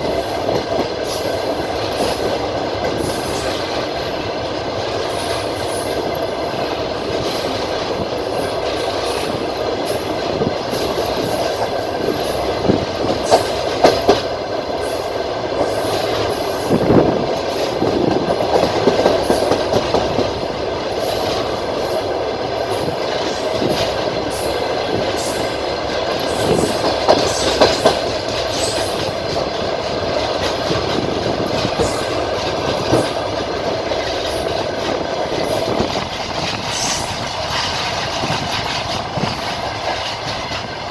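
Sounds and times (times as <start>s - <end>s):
train rolling rumble: 0.0s - 40.9s
wheels clattering over rail joints: 0.0s - 40.9s.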